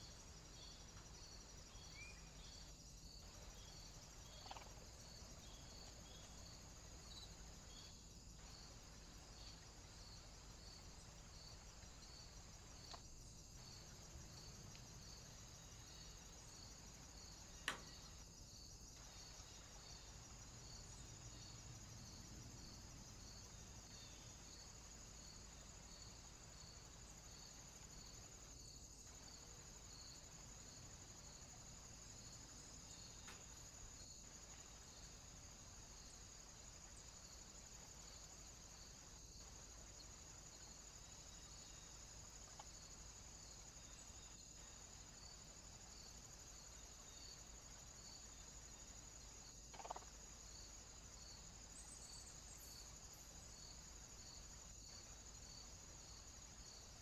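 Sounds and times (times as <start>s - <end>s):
faint crickets chirping: 0.0s - 57.0s.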